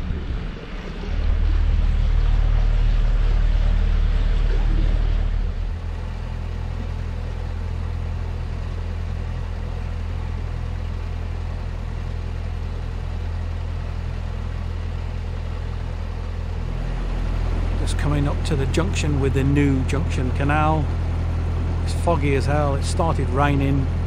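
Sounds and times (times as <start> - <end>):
boat diesel engine humming: 0.0 - 24.0.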